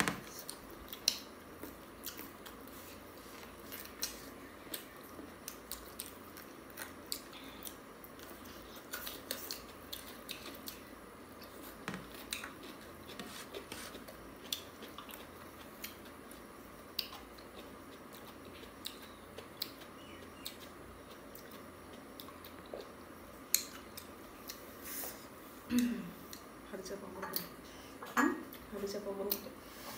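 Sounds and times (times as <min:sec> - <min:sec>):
faint room hum: 0:00.0 - 0:29.9
chewing smacks: 0:00.4 - 0:24.6.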